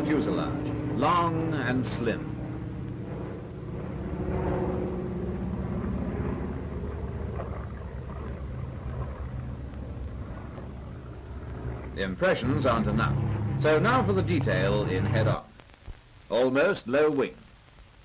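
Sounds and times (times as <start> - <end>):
piston aircraft engines droning: 0.0 - 15.7.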